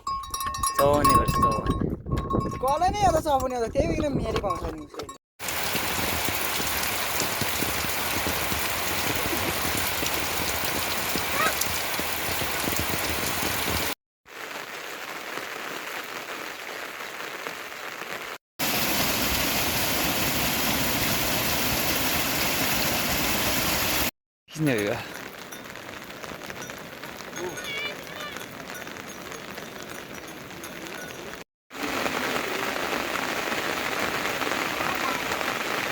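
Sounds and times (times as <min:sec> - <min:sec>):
steady rain falling: 0:05.4 - 0:35.9.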